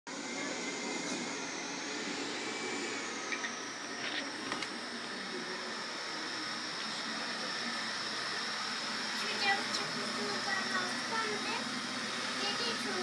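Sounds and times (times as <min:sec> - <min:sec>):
robot vacuum whirring: 0:00.1 - 0:13.0.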